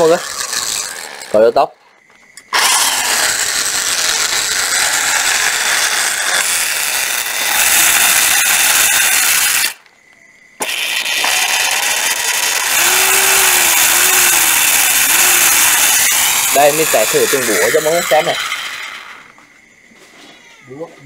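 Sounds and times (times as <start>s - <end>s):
cordless drill spinning freely: 0.0s - 1.4s, 2.5s - 9.8s, 10.6s - 19.3s.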